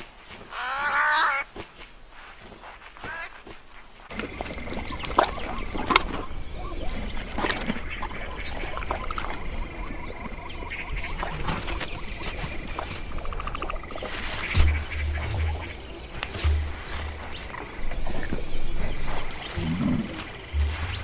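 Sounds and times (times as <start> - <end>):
high insect chirp: 2.0 - 21.0.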